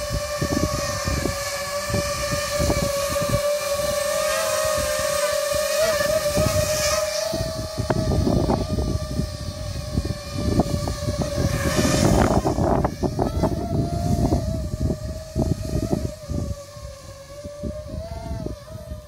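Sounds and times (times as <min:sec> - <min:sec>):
drone motors whining: 0:00.0 - 0:19.0
wind buffeting microphone: 0:00.0 - 0:19.0.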